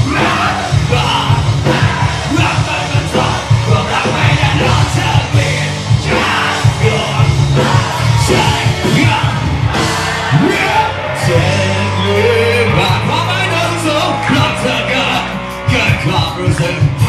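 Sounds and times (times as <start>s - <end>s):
person singing: 0.0s - 14.9s
crowd of men yelling: 0.0s - 17.0s
live rock band playing: 0.0s - 17.0s.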